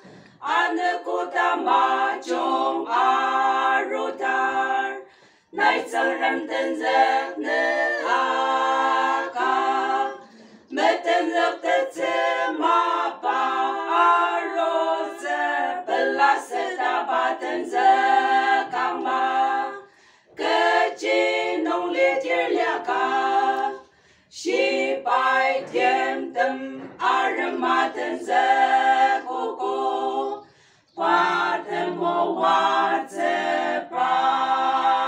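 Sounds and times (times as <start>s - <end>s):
women singing a cappella: 0.0s - 35.0s.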